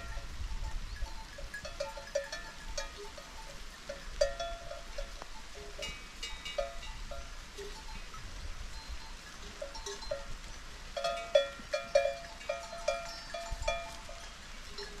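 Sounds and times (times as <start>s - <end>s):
livestock bells clanking: 0.0s - 15.0s.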